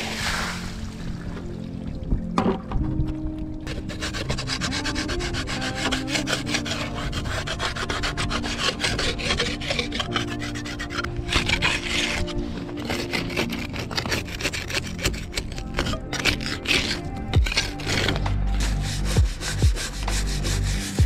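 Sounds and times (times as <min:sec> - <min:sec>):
hand scraper rasping on hull: 0:03.7 - 0:21.0.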